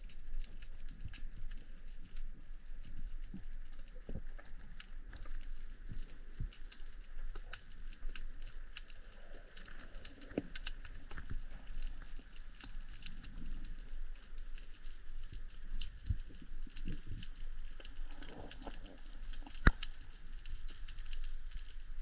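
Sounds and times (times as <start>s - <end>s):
clicks and crackles from seabed: 0.0s - 22.0s.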